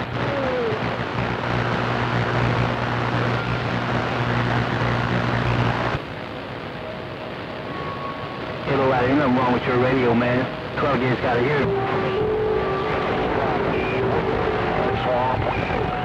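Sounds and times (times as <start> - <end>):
radio static with droning hum: 0.0 - 16.0.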